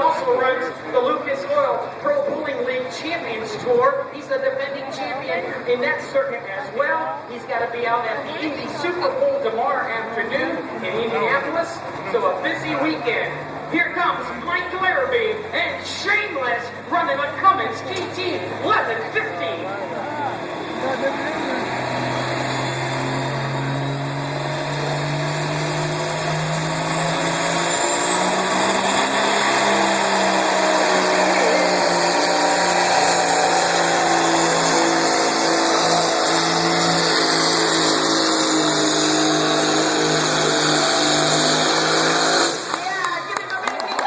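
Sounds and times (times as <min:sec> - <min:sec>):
diesel truck engine under heavy load: 0:00.0 - 0:44.0.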